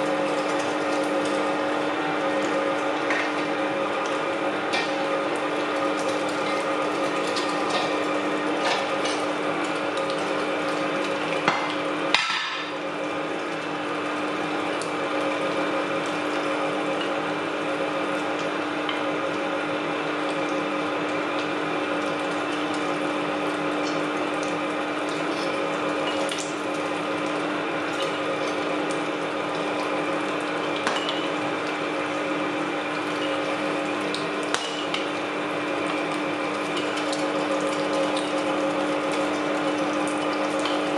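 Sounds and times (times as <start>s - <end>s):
electric meat grinder running: 0.0s - 40.9s.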